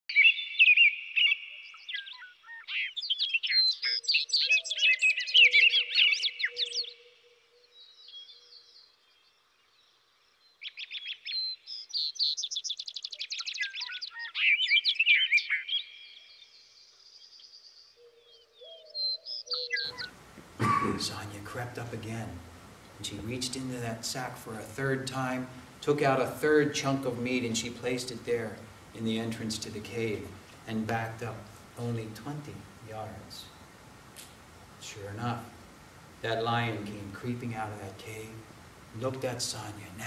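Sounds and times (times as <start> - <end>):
songbirds chirping and trilling: 0.1 - 40.0.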